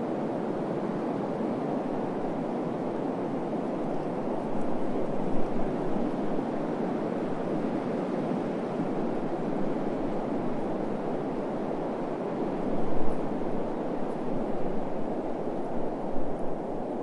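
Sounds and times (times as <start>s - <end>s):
wind buffeting microphone: 0.3s - 17.0s.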